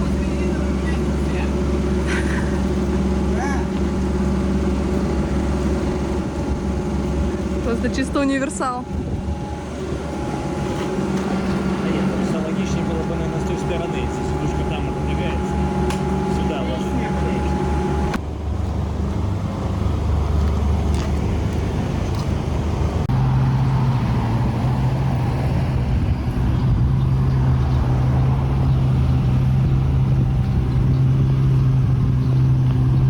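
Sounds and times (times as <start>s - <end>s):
car engine running: 0.0s - 23.4s, 24.2s - 33.0s
road noise: 0.0s - 33.0s.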